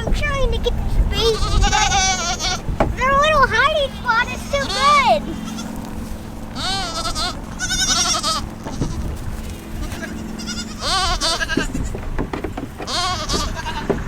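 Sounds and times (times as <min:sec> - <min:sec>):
goat kids bleating: 0:00.0 - 0:14.0.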